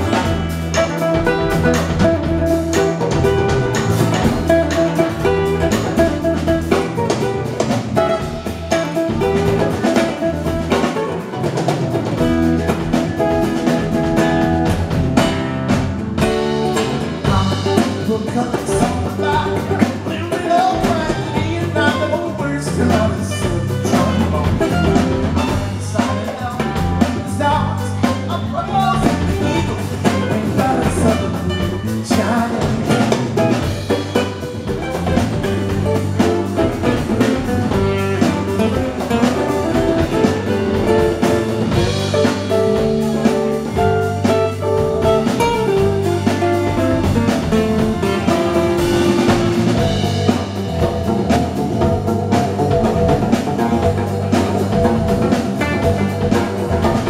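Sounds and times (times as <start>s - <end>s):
electric bass guitar: 0.0s - 57.0s
hand drum beat: 0.0s - 57.0s
strummed acoustic guitars: 0.0s - 57.0s.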